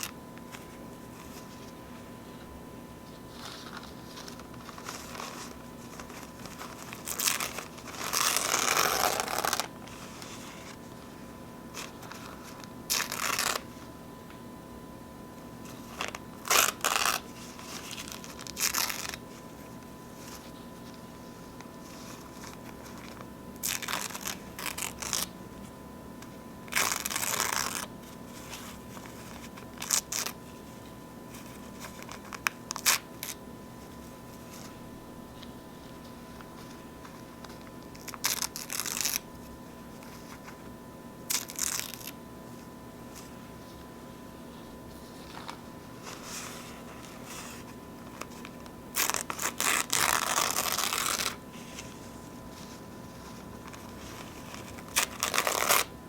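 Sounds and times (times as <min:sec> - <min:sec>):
paper napkins tearing and crinkling: 0:03.1 - 0:13.8, 0:15.6 - 0:19.5, 0:20.1 - 0:25.3, 0:26.7 - 0:30.4, 0:31.3 - 0:34.8, 0:36.1 - 0:40.6, 0:41.3 - 0:43.4, 0:44.6 - 0:55.9.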